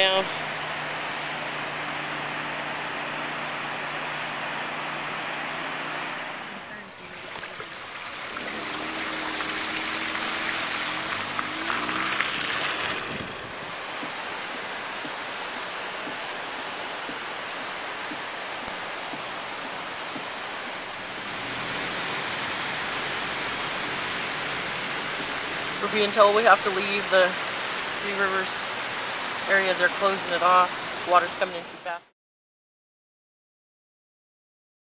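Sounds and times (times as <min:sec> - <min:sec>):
roar of rushing river water: 0:00.0 - 0:32.0.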